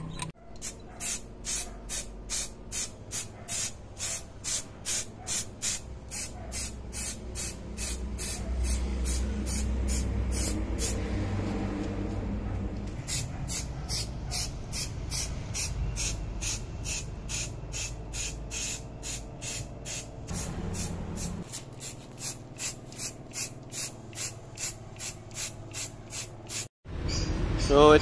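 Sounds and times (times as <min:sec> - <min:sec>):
spray can hissing in bursts: 0:00.6 - 0:11.0, 0:13.1 - 0:26.7.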